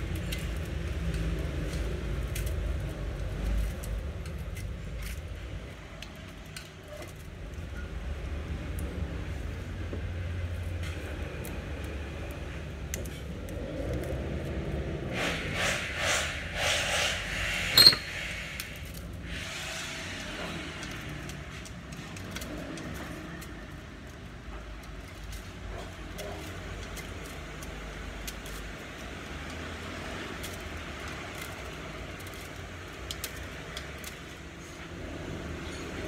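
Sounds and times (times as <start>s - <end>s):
wire rustling and metallic ticks: 0.0s - 14.8s, 20.6s - 36.0s.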